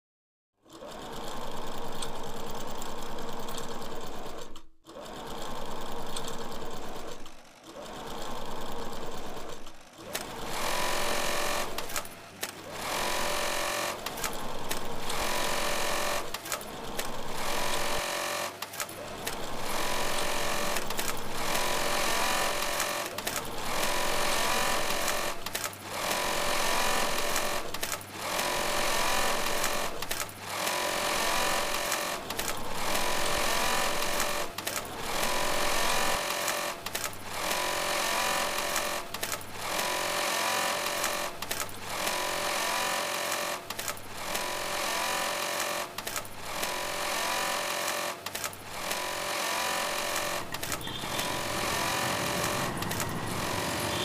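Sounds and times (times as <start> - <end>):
sewing machines running: 0.6 - 54.0.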